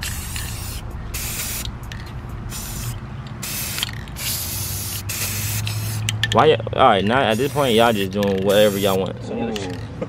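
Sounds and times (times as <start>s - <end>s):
spray paint cans hissing: 0.0s - 6.3s, 7.2s - 9.0s.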